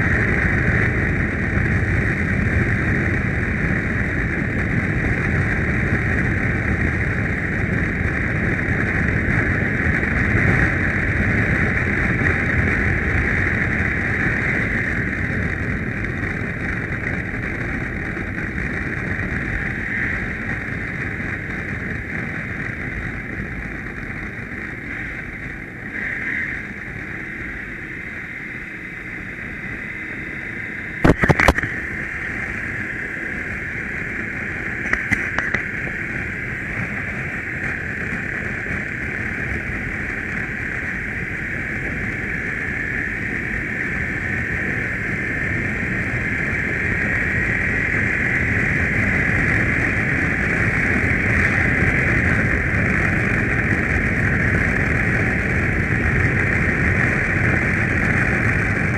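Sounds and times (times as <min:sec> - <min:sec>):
motorcycle engine riding: 0:00.0 - 0:58.9.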